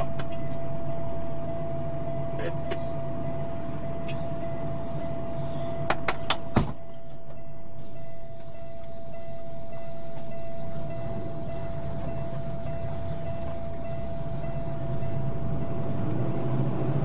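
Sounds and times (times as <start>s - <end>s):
pickup truck engine idling: 0.0s - 15.8s
constant high whine: 0.0s - 17.0s.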